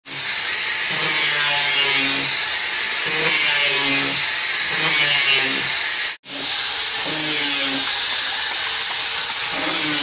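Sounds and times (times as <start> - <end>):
angle grinder grinding wood: 0.0 - 10.0.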